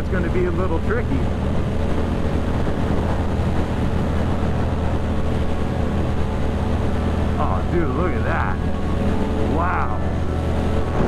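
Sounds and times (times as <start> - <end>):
wind rush over microphone: 0.0 - 11.0.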